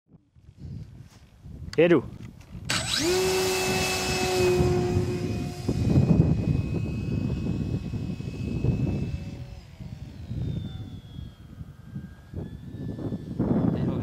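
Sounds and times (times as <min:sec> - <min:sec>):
model plane motor whine: 0:02.6 - 0:14.0.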